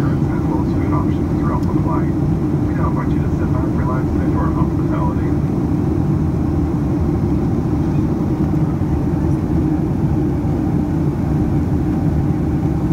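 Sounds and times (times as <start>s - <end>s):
airplane cabin engine noise: 0.0s - 12.9s.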